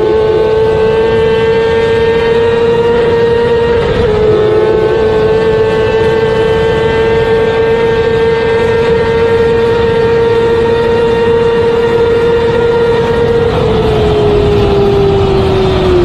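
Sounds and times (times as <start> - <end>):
motorcycle engine high revs: 0.0 - 16.0
wind rush: 0.0 - 16.0.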